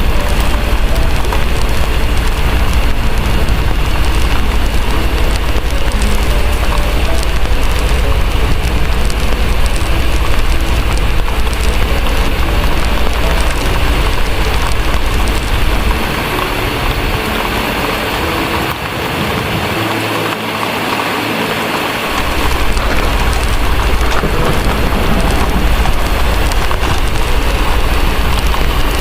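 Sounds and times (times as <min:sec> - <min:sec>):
distant thunder rumble: 0:00.0 - 0:17.5, 0:22.1 - 0:29.0
heavy rain: 0:00.0 - 0:29.0.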